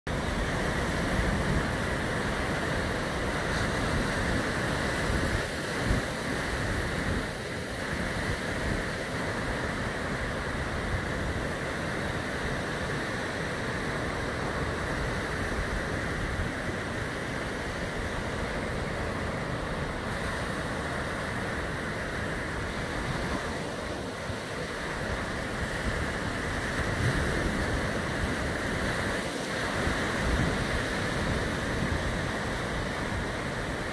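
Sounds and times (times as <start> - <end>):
surf washing up a beach: 0.1 - 33.9.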